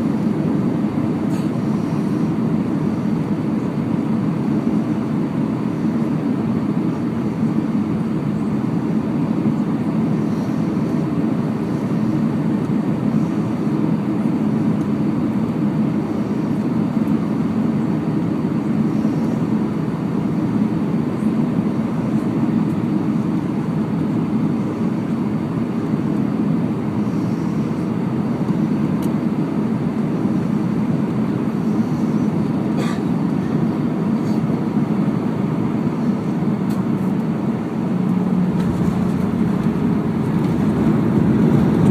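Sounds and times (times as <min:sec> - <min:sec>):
aircraft engine drone: 0:00.0 - 0:41.9
airflow rush in aircraft cabin: 0:00.0 - 0:41.9.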